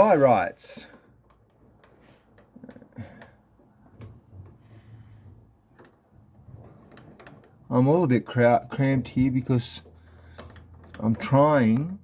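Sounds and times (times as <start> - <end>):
faint metal clicks and knocks: 0.8 - 12.0.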